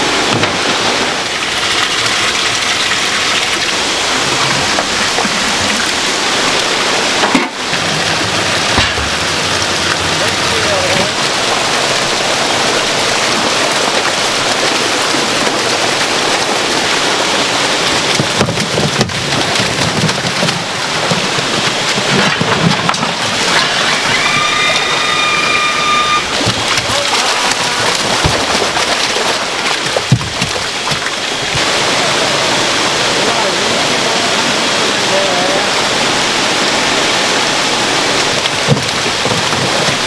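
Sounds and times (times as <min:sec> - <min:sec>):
water pouring from pipes: 0:00.0 - 0:40.0
water rushing and splashing: 0:00.0 - 0:40.0.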